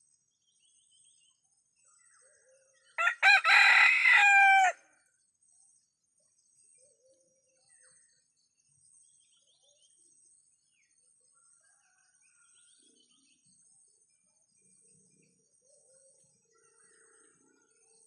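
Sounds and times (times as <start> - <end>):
faint bird chirps: 0.0 - 3.0, 4.9 - 18.0.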